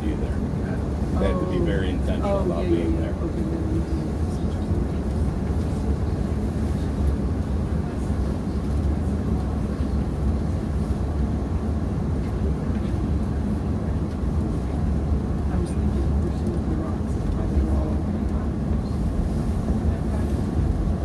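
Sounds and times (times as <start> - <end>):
tram rumbling: 0.0 - 21.0.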